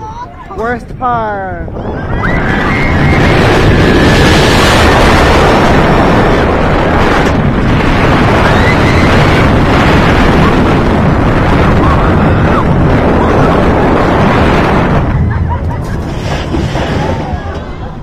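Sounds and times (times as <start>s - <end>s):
roller coaster train rumbling on track: 0.0s - 18.0s
wind buffeting microphone: 0.0s - 18.0s.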